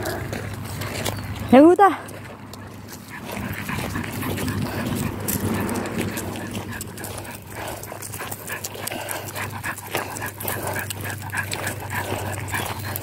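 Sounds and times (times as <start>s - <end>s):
puppy panting and whimpering: 0.0s - 13.0s.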